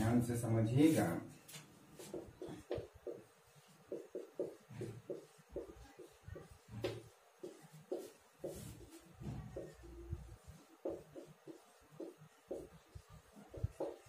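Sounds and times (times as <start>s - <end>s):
marker squeaking on whiteboard: 2.0s - 14.0s.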